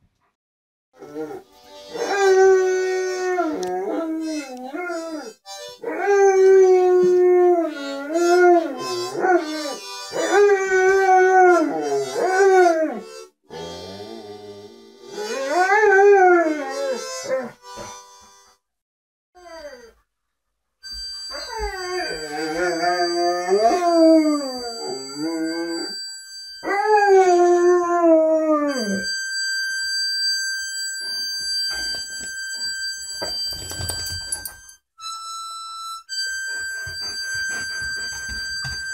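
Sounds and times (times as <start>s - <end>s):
harmonica notes: 1.4s - 18.6s, 20.8s - 27.3s, 28.7s - 38.9s.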